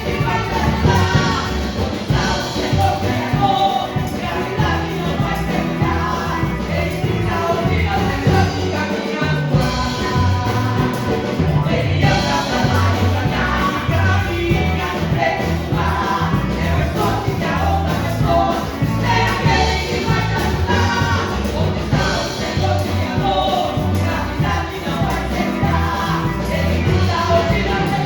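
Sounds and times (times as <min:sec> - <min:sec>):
band with bass and drums: 0:00.0 - 0:28.0
women singing gospel: 0:00.0 - 0:28.0.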